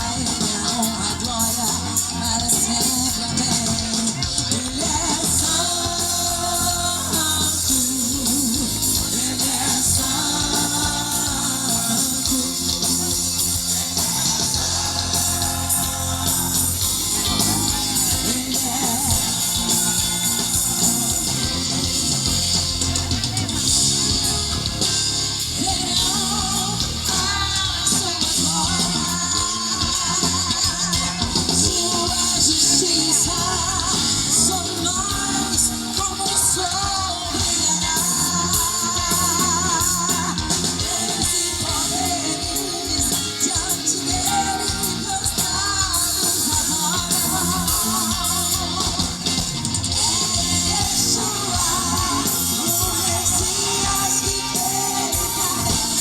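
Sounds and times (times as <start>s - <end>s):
woman singing: 0.0s - 21.7s, 25.4s - 56.0s
bass: 0.0s - 56.0s
drums: 0.0s - 56.0s
electric guitar: 0.0s - 56.0s
live band playing pop-rock: 0.0s - 56.0s.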